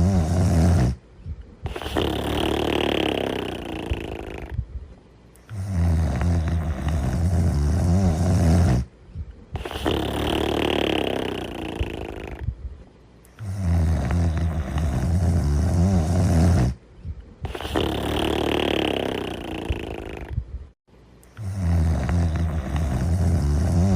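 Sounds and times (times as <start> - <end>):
person snoring: 0.0 - 1.0, 1.7 - 4.6, 5.4 - 8.9, 9.6 - 12.5, 13.3 - 16.8, 17.4 - 20.4, 21.3 - 23.9.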